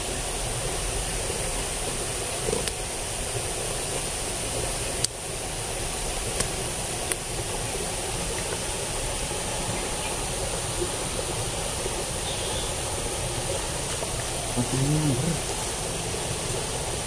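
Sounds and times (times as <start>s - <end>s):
water rushing in ditch: 0.0s - 17.0s.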